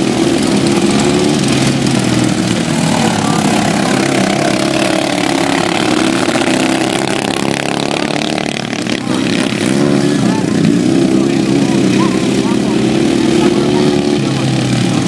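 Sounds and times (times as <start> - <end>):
lawn mower engines racing: 0.0 - 15.0.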